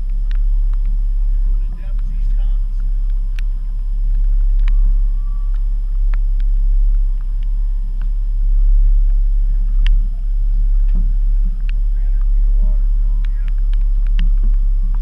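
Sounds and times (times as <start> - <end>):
boat low rumble: 0.0 - 15.0
gear knocking and clicking: 0.0 - 15.0.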